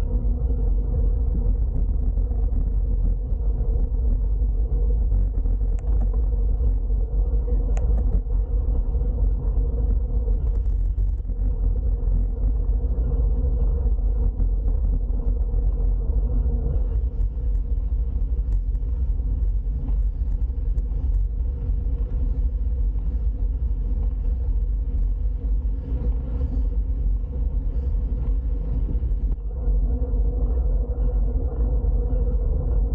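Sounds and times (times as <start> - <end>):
bicycle tyre and road noise: 0.0 - 32.9
wind rumble on microphone: 0.0 - 32.9.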